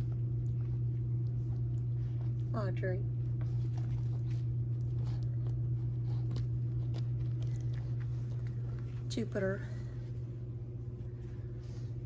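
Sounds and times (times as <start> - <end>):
low hum: 0.0 - 12.0
puppies chewing plush toys: 0.0 - 12.0.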